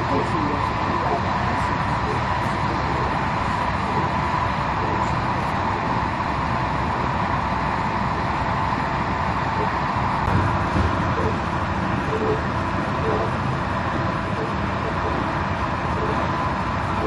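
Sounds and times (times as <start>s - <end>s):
faint steady whine: 0.0s - 17.0s
train running noise: 0.0s - 17.0s.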